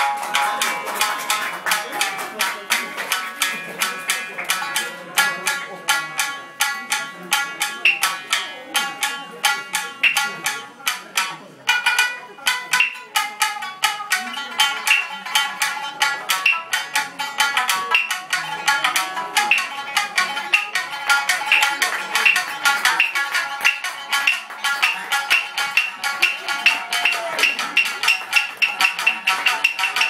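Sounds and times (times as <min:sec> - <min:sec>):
shamisen playing: 0:00.0 - 0:30.0.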